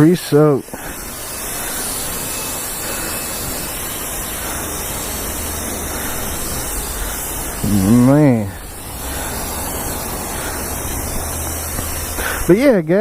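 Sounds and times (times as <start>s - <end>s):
water spray hissing: 0.0s - 13.0s.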